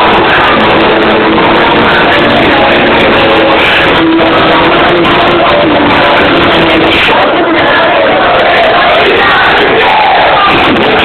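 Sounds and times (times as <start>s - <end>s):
loud live band music: 0.0s - 11.0s.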